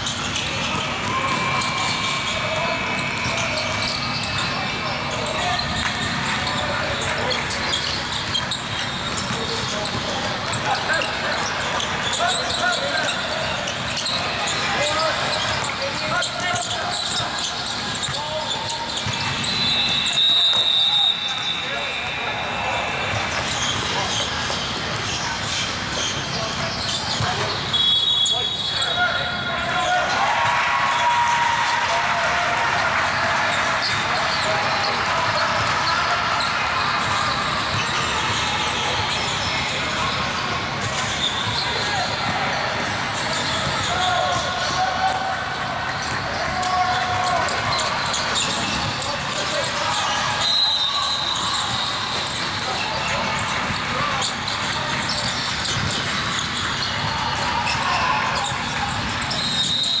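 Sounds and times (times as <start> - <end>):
basketball bouncing on court: 0.0 - 21.5, 32.3 - 59.8
murmur of voices: 0.0 - 60.0
sneaker squeaks: 0.0 - 60.0.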